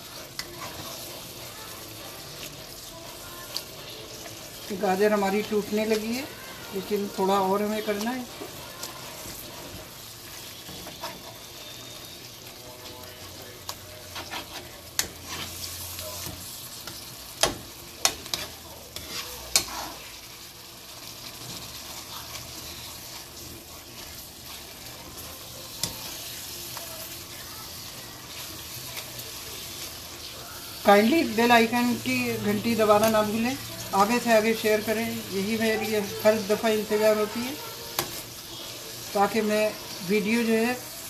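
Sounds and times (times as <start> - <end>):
food sizzling in a frying pan: 0.0 - 41.0.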